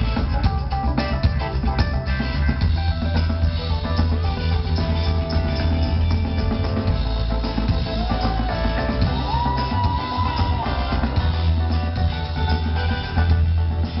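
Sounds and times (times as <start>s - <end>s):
drum kit beating: 0.0s - 14.0s
live band music: 0.0s - 14.0s.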